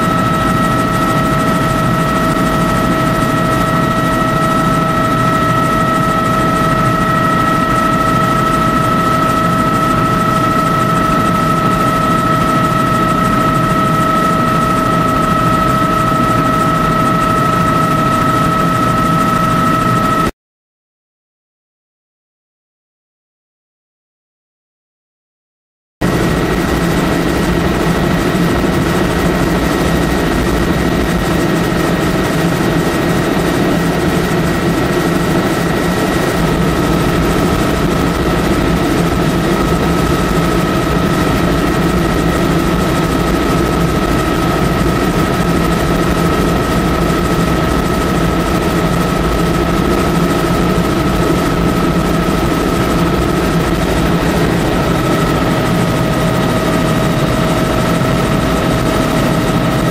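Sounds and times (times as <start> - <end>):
helicopter engine and rotor drone: 0.0 - 20.3, 26.0 - 59.9.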